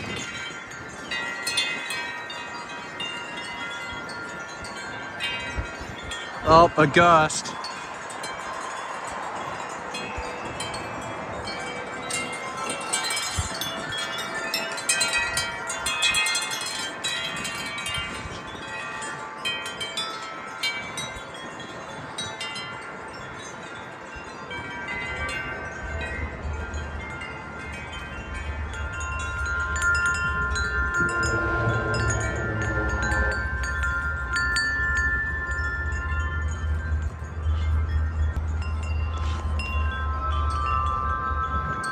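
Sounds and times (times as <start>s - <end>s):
wind rumbling on microphone: 0.0s - 6.5s, 7.4s - 41.9s
wind chimes ringing: 0.0s - 41.9s.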